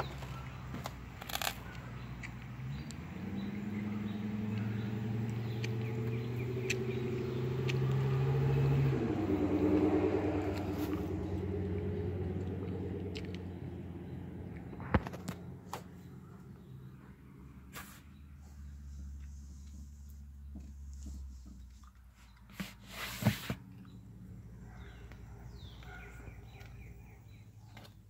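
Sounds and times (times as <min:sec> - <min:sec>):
car engine humming: 0:00.0 - 0:28.0.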